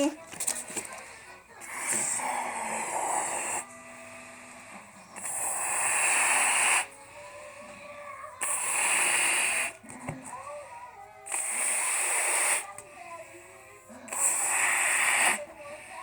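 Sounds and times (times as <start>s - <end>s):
air hissing from balloon neck: 0.0s - 16.0s.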